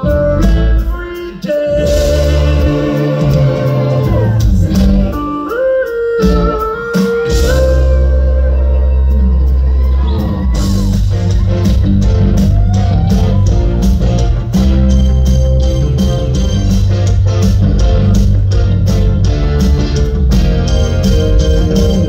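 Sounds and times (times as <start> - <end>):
live electronic rock band: 0.0 - 22.0.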